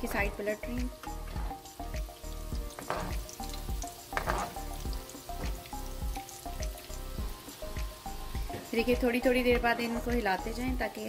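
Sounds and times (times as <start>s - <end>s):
food deep-frying in oil: 0.0s - 11.0s
background music with beat: 0.1s - 10.9s.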